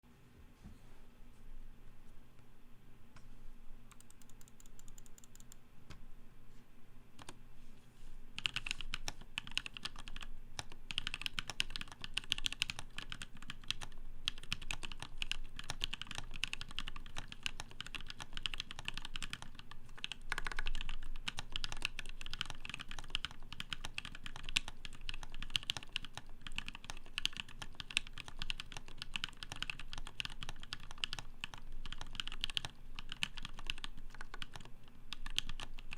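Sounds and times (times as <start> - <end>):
mechanical keyboard typing: 3.9 - 5.6, 7.2 - 7.4, 8.4 - 35.9.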